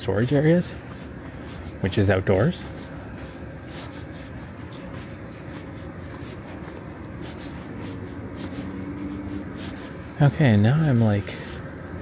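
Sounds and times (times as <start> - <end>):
clothing rustling: 0.0 - 12.0
footsteps walking: 0.0 - 12.0
steady background hum: 0.0 - 12.0.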